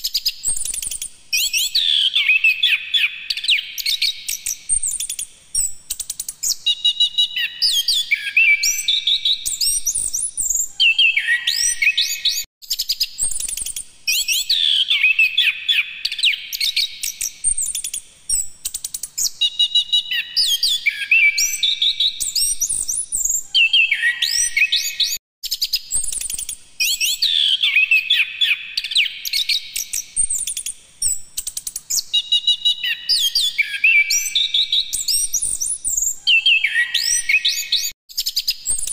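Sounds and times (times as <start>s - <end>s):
thrush singing whistled song: 0.0s - 38.9s.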